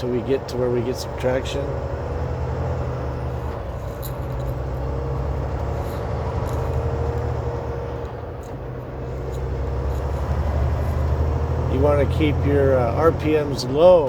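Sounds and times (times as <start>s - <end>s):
diesel truck engine droning: 0.0s - 14.0s
road noise: 0.0s - 14.0s.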